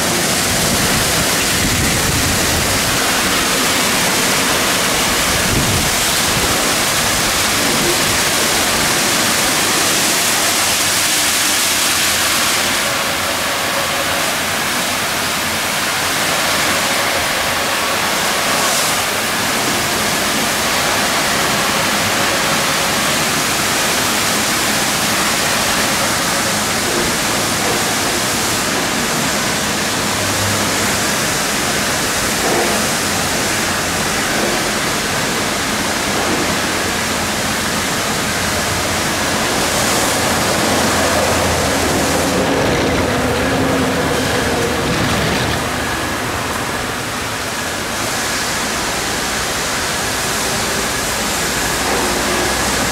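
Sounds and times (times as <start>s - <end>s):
car wash brushes and water spray: 0.0s - 52.9s.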